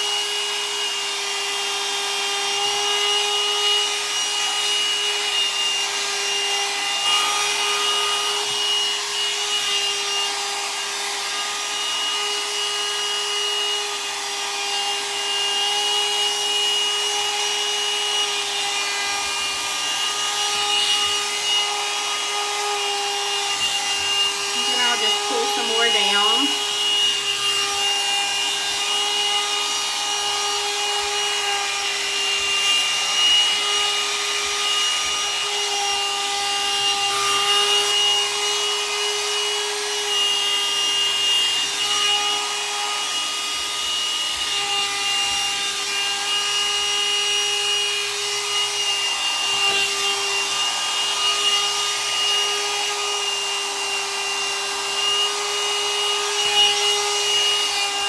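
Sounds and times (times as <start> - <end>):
hot air brush motor whine: 0.0 - 58.0.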